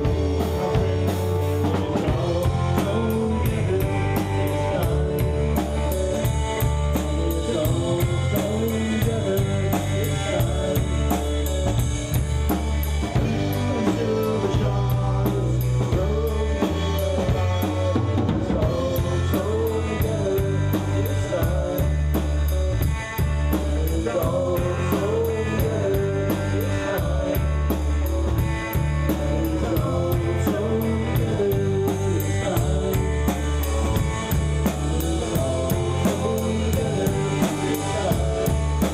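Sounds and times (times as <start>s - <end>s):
rock band playing live: 0.0s - 38.9s
steady drum beat: 0.0s - 38.9s.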